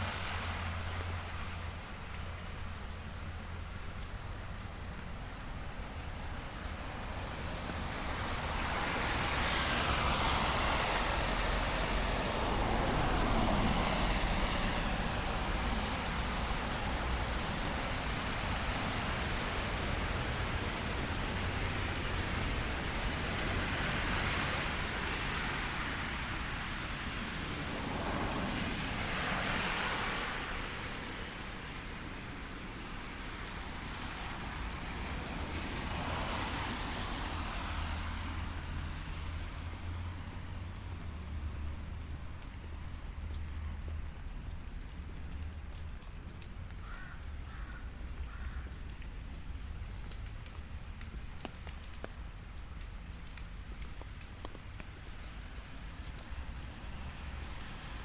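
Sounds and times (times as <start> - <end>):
cars passing on wet road: 0.0 - 58.0
light rain: 0.0 - 58.0.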